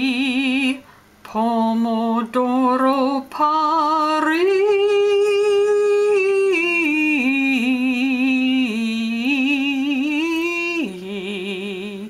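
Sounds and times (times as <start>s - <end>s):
person singing operatic run: 0.0s - 12.0s.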